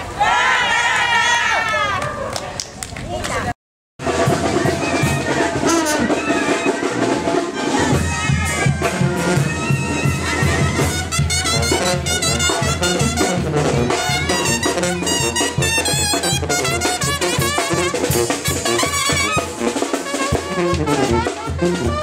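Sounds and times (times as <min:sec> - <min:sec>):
drums: 0:04.0 - 0:22.0
tuba bass line: 0:04.0 - 0:22.0
trumpets: 0:04.1 - 0:22.0.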